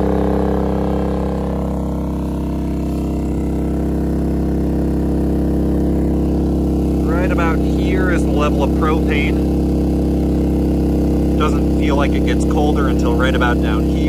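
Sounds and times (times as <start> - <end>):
generator engine hum: 0.0 - 14.0.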